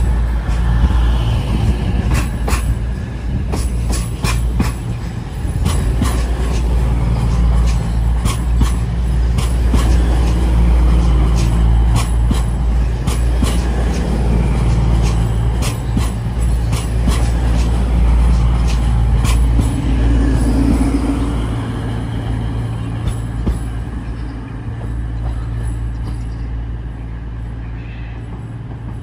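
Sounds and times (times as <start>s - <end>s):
diesel train engines droning: 0.0s - 29.0s.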